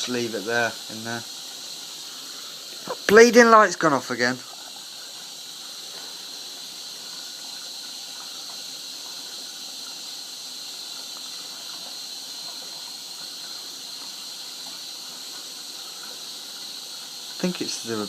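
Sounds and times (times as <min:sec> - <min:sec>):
washing machine running water hiss: 0:00.0 - 0:18.0.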